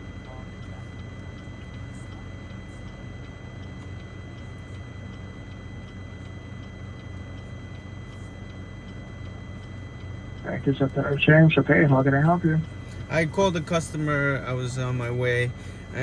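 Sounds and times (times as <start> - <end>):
car idling inside cabin: 0.0 - 16.0.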